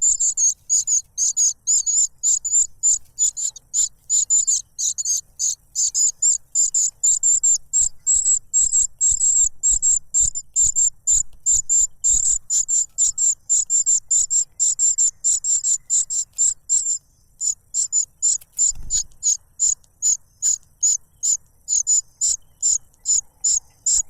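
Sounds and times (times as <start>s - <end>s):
cuckoo chick begging calls: 0.0s - 24.0s.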